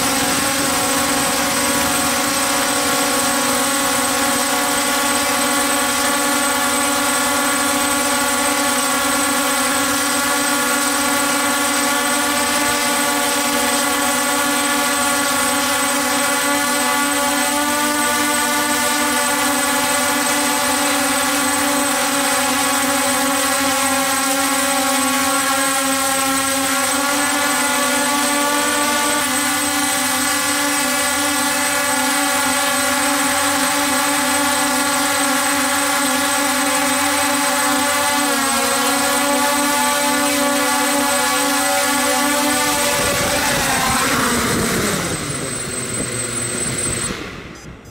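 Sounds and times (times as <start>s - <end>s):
drone motors and propellers droning: 0.0s - 47.9s
thin high whine: 0.0s - 47.9s.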